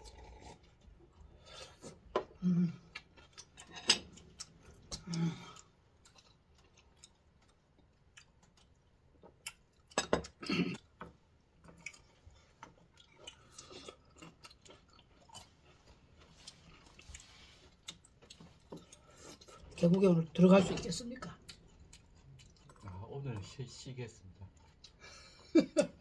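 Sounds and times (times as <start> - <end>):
people chewing fruit: 0.0 - 26.0.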